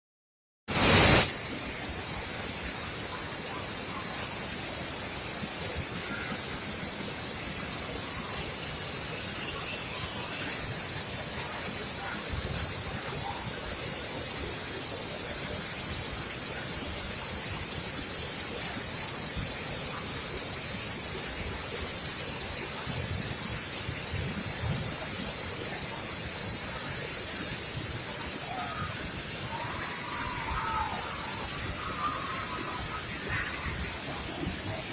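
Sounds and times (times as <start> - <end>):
waterfall rushing: 0.7 - 34.9.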